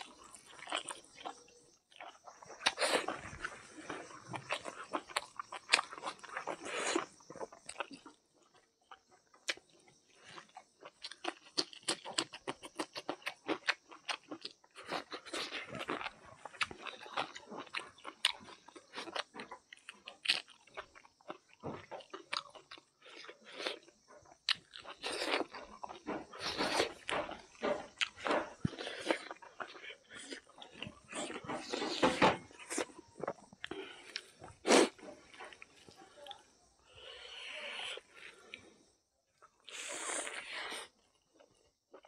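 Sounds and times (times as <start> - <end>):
chewing and crunching food: 0.0 - 42.0.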